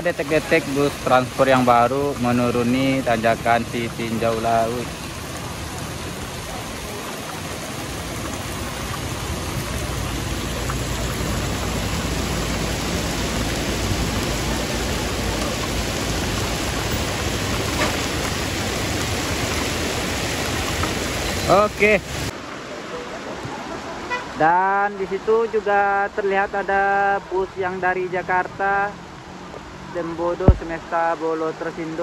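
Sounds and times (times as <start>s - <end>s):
heavy rain pouring: 0.0s - 32.0s
low rumble of road traffic: 0.0s - 32.0s.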